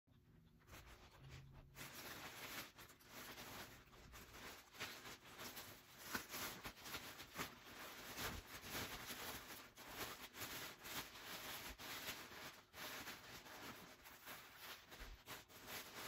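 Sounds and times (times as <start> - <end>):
plastic bag rustling and crinkling: 0.5 - 16.0.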